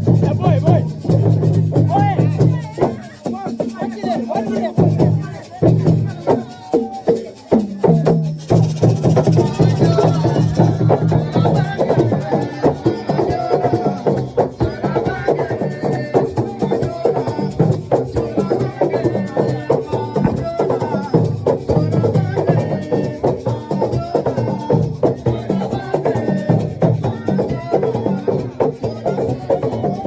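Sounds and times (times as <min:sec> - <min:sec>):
drum group playing fast rhythm: 0:00.0 - 0:30.0.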